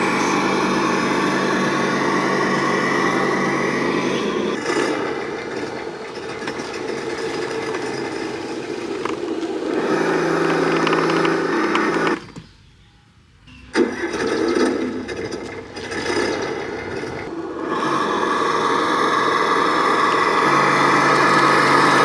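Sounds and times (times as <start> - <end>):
toy truck motors humming: 0.0 - 12.5, 13.5 - 22.0.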